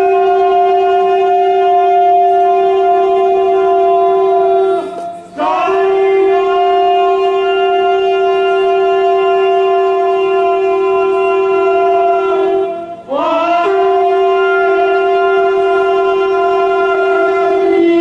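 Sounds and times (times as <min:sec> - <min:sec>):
conch shell blown: 0:00.0 - 0:18.0.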